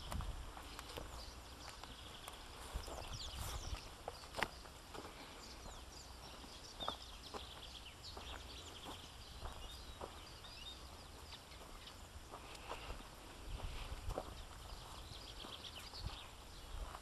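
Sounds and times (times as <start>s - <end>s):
footsteps on grass: 0.0s - 17.0s
small birds singing and chirping: 0.0s - 17.0s.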